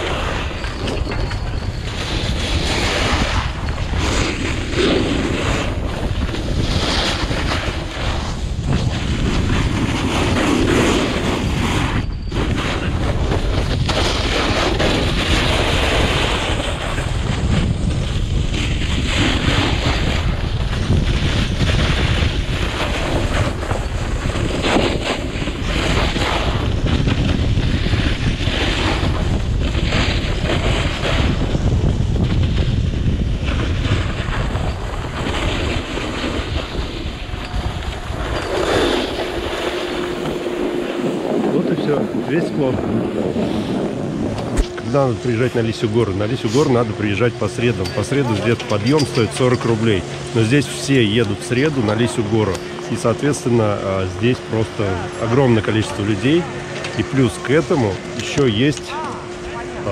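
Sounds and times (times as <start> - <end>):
snowboard scraping over snow: 0.0 - 59.9
wind rushing over microphone: 0.0 - 59.9.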